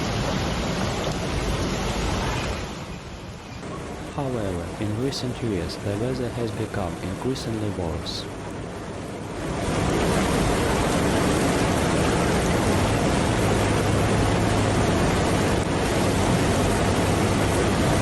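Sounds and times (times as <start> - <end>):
heavy rain and wind hissing: 0.0 - 18.0.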